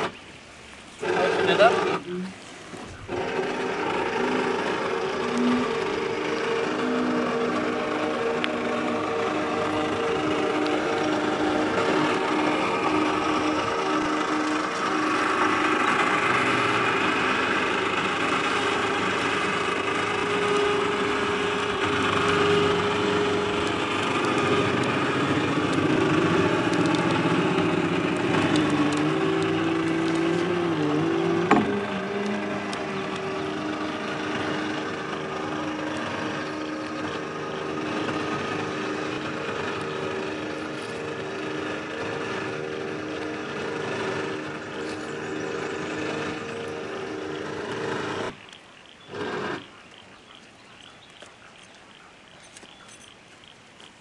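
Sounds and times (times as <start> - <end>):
electric motor humming: 0.0 - 0.2, 0.9 - 53.2.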